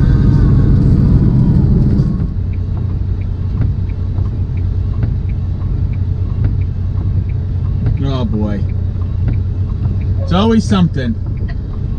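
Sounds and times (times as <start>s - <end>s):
diesel engine rumble: 0.0s - 11.9s
tyres on wet road: 0.0s - 11.9s.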